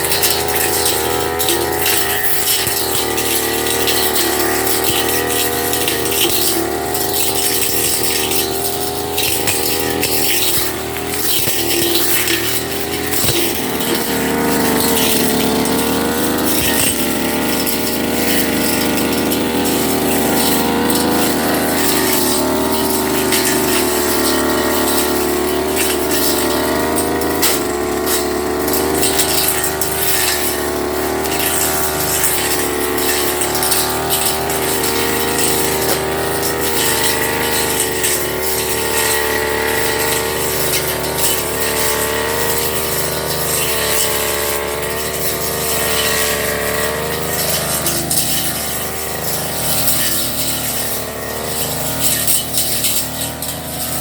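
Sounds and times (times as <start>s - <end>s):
brush cutter engine high revs: 0.0s - 54.0s.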